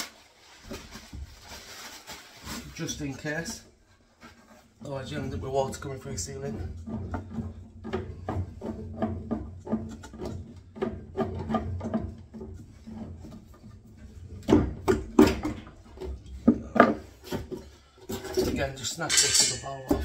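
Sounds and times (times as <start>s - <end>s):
pipe cutter scraping copper pipe: 3.2s - 20.0s.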